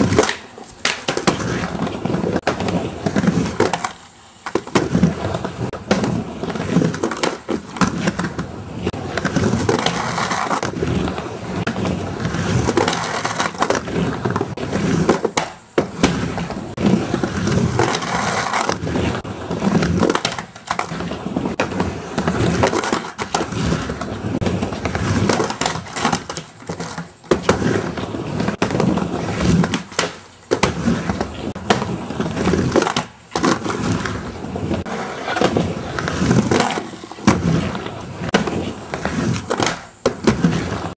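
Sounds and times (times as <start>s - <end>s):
skateboard clacks: 0.0s - 40.9s
skateboard trucks grinding on coping: 0.0s - 40.9s
skateboard wheels rolling on ramp: 0.0s - 40.9s.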